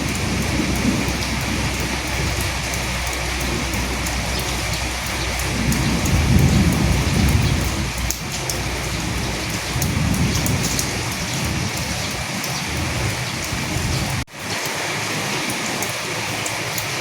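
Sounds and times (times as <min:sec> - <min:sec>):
thunder rumble: 0:00.0 - 0:14.3
rain pattering: 0:00.0 - 0:17.0.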